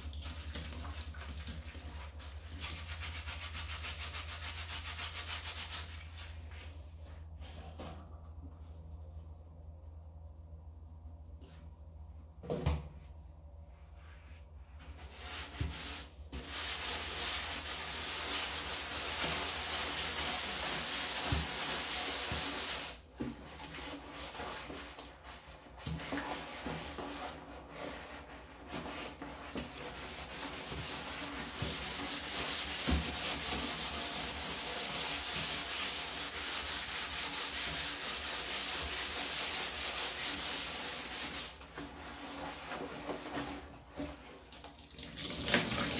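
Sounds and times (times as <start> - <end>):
sponge scrubbing plastic can: 0.0 - 8.1, 14.0 - 45.9.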